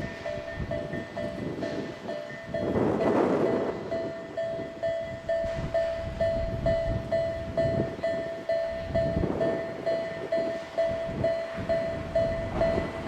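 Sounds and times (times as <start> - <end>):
level-crossing warning bell ringing: 0.0 - 13.0
train rumbling past: 0.0 - 13.0.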